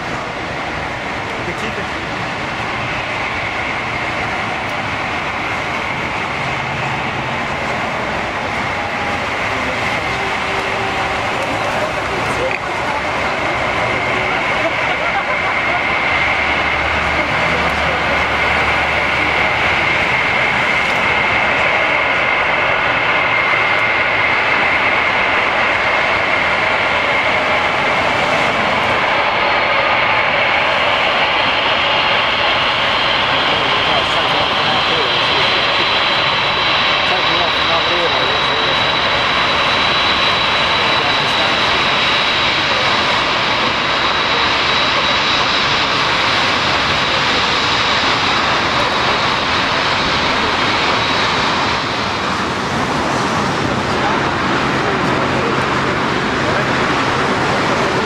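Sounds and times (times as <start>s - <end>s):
jet engines roaring and whining: 0.0s - 58.0s.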